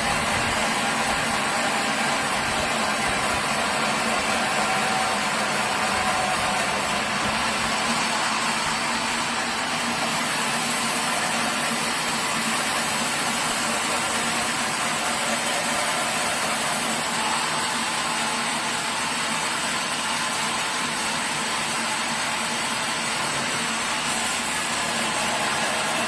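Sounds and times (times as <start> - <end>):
sawmill machinery droning: 0.0 - 26.0.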